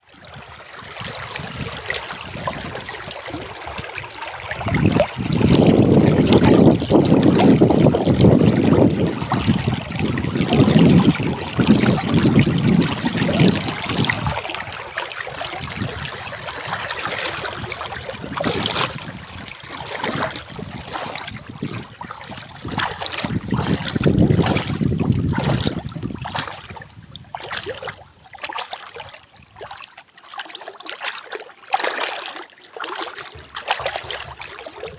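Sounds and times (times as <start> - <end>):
water waves splashing: 0.0 - 34.9.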